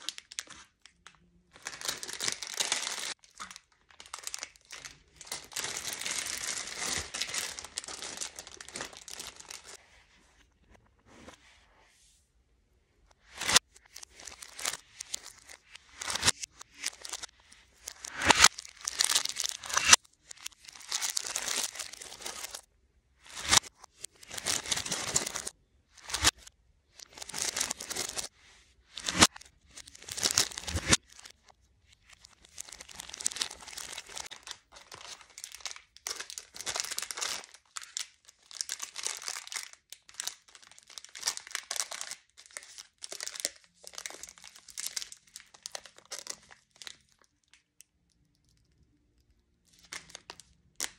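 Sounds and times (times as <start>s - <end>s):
candy wrappers crinkling: 0.0s - 9.8s, 13.2s - 22.7s, 23.3s - 50.9s.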